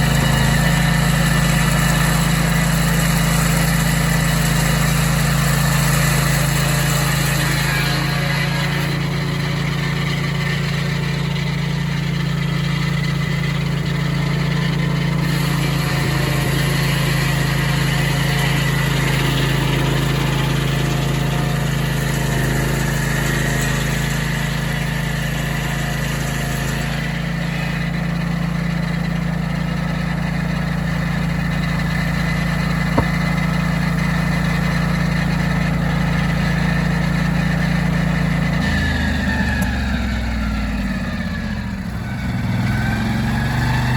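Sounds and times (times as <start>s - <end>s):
saw cutting log: 0.0s - 43.9s
sawmill engine running: 0.0s - 43.9s.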